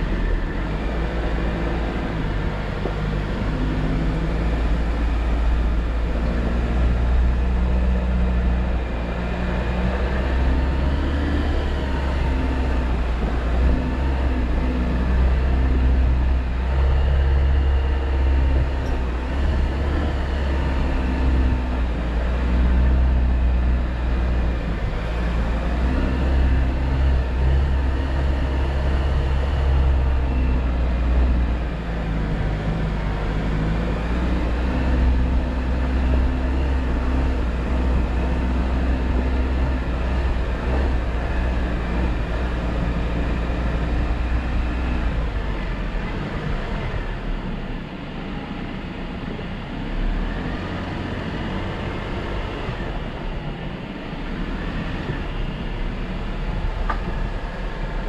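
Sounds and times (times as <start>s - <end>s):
car engine driving drone: 0.0s - 58.0s.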